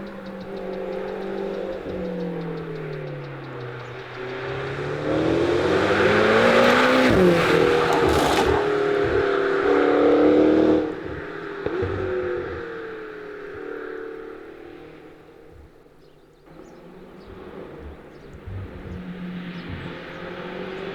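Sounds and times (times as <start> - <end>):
sports car engine accelerating: 0.0 - 20.9.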